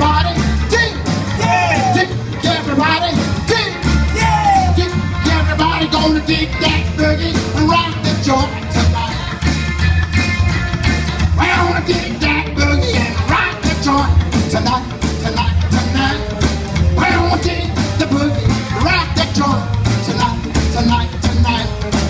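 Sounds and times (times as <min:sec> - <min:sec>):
rock and roll band playing: 0:00.0 - 0:22.0.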